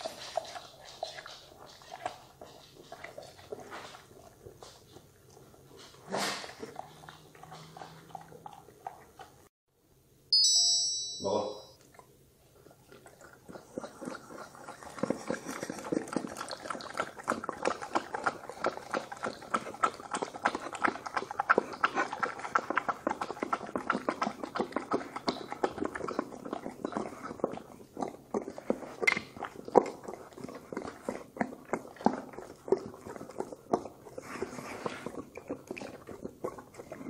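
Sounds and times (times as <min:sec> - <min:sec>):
dogs eating from bowls: 0:00.0 - 0:09.5, 0:12.0 - 0:37.0.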